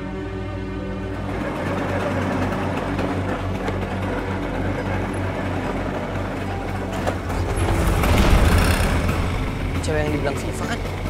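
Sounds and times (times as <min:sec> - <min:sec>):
scooter engine running: 0:01.1 - 0:11.0.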